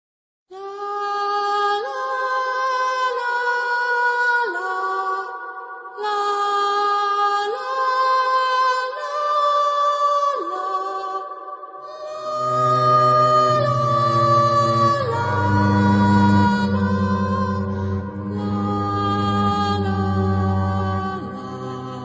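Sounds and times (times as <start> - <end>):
eerie wordless choir music: 0.6 - 22.0.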